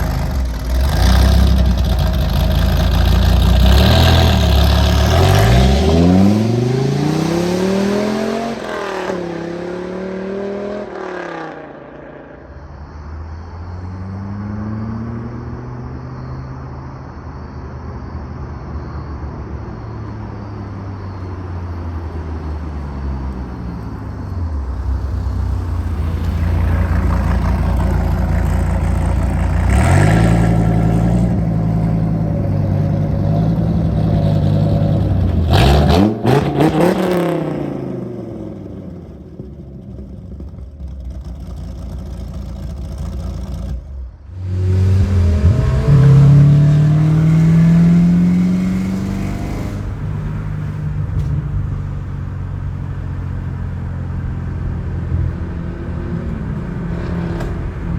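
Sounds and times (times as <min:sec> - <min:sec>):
car engine revving and accelerating: 0:00.0 - 0:12.2, 0:21.9 - 0:57.9.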